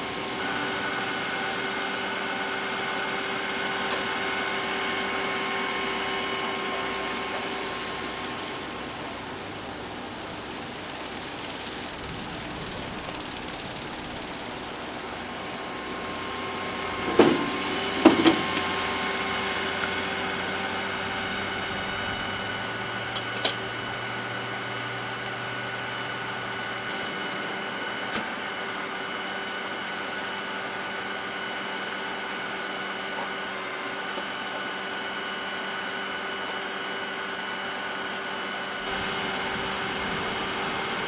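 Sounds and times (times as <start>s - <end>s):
vehicle engine: 0.0s - 41.0s.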